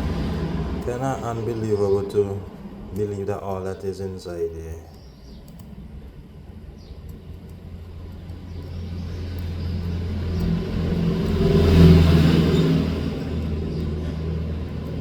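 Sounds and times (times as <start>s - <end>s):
motor vehicle rumbling: 0.0s - 15.0s.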